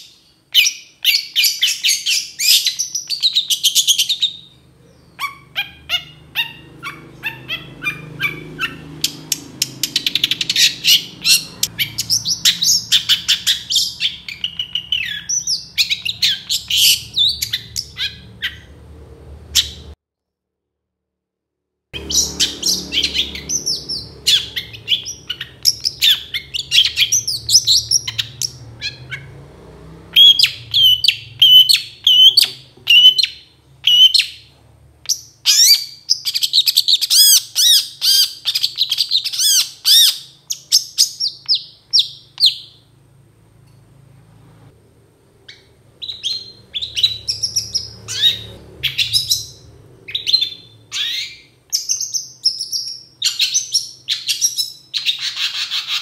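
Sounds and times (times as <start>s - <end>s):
bird chattering song: 0.0s - 18.8s, 19.6s - 20.0s, 22.0s - 29.4s, 30.2s - 34.5s, 35.1s - 42.8s, 45.5s - 56.0s.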